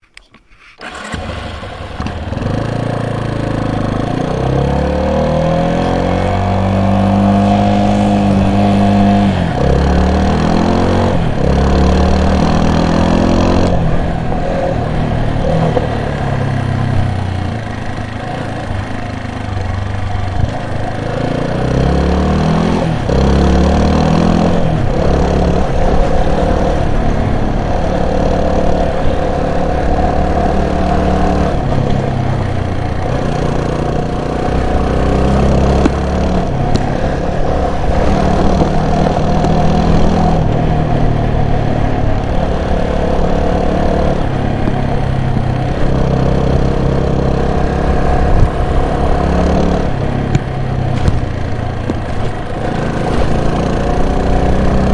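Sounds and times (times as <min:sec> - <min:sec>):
vehicle engine revving: 0:00.8 - 0:54.9.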